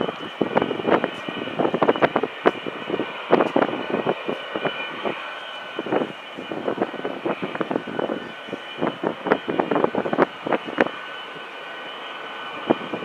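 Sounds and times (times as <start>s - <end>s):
choppy rumbling noise: 0.0s - 13.0s
jet engines whining: 0.0s - 13.0s.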